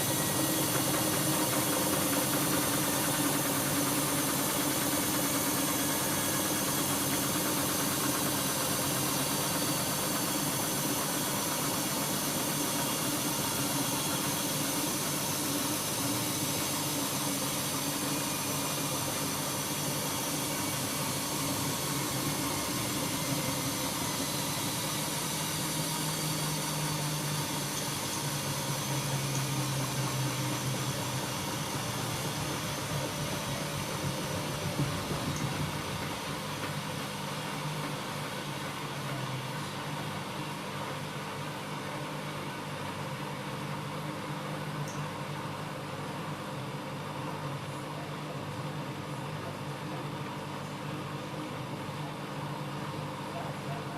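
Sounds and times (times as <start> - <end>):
washing machine motor hum: 0.0 - 53.9.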